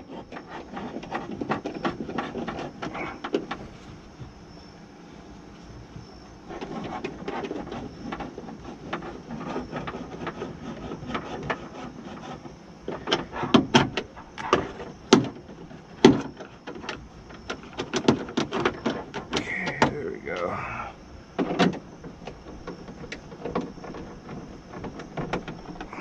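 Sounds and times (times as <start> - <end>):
sharp knocks and clicks: 0.0 - 4.4, 6.0 - 20.5, 21.3 - 26.0
parts and tools rustling: 0.0 - 26.0.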